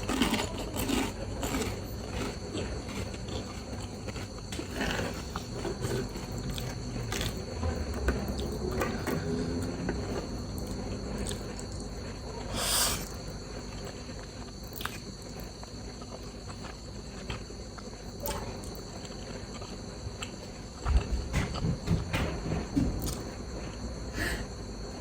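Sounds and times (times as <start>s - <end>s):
wet chewing: 0.0s - 20.7s.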